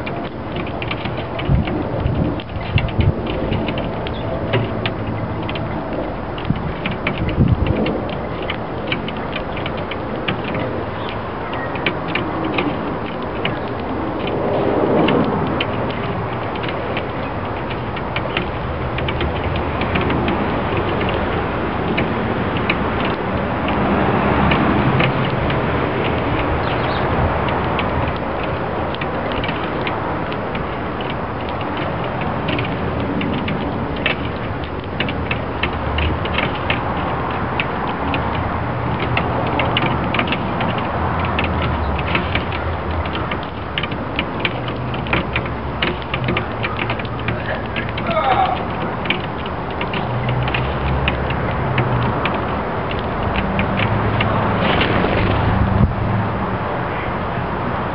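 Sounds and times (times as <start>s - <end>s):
steady background noise: 0.0s - 57.9s.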